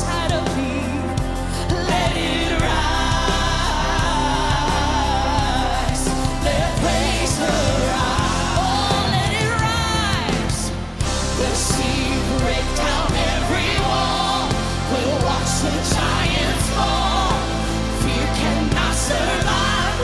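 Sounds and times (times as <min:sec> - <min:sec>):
gospel band with bass: 0:00.0 - 0:20.0
person singing: 0:00.0 - 0:20.0.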